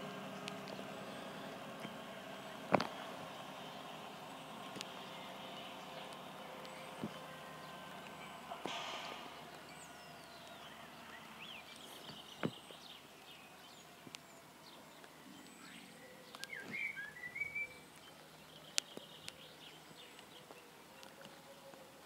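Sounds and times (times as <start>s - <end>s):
birds chirping: 0.0s - 22.0s
quiet street ambience: 0.0s - 22.0s.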